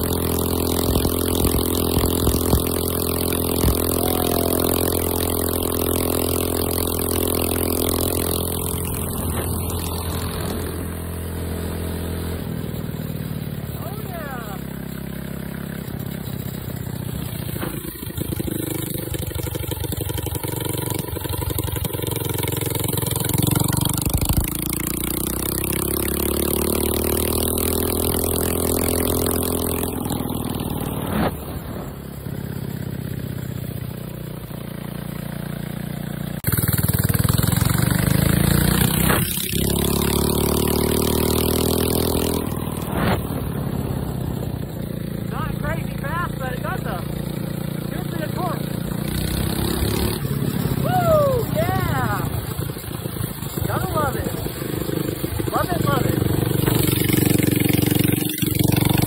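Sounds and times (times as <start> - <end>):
mini bike engine accelerating: 0.0 - 59.0.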